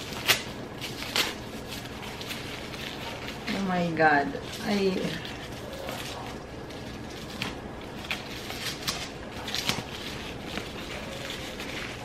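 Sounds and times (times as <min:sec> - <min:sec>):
tissue paper rustling: 0:00.0 - 0:12.0.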